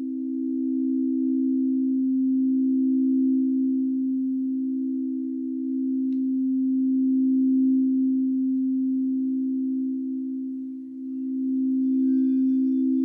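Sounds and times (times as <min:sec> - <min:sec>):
singing bowl tone: 0:00.0 - 0:13.0.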